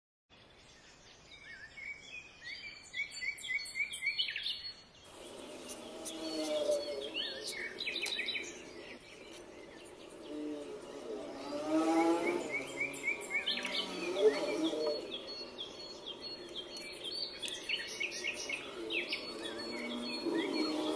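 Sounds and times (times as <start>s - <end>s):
small birds chirping: 0.3s - 20.9s.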